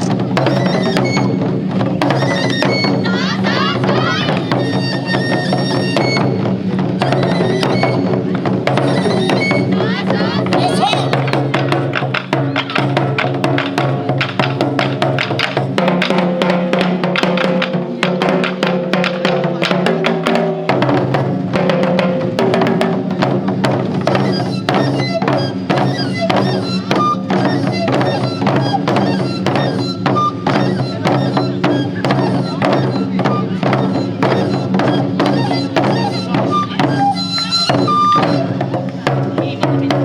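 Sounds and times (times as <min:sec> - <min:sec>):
taiko drums striking fast: 0:00.0 - 0:40.0.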